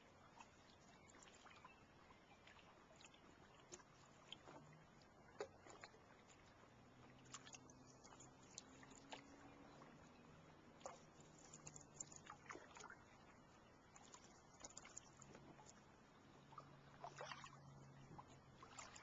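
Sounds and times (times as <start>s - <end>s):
water lapping against canoe hull: 0.0s - 19.0s.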